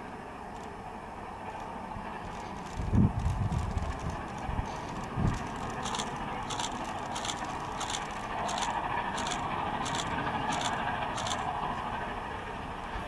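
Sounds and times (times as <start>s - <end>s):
distant steam locomotive chugging: 0.0s - 13.0s.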